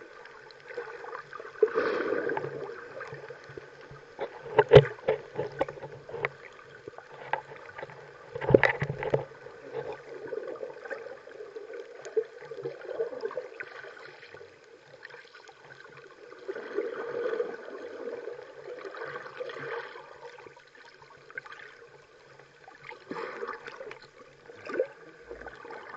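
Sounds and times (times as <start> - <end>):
muffled water sloshing and gurgling: 0.0 - 25.9.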